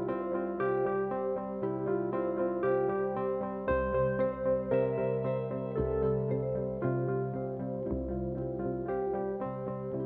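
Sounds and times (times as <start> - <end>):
soft ambient keyboard tune: 0.0 - 10.0.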